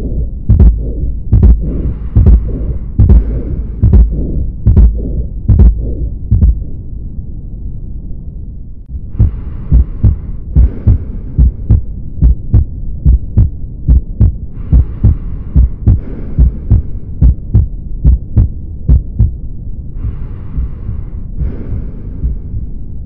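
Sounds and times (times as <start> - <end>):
heartbeat through stethoscope: 0.0 - 6.6, 9.1 - 19.4, 20.0 - 22.5.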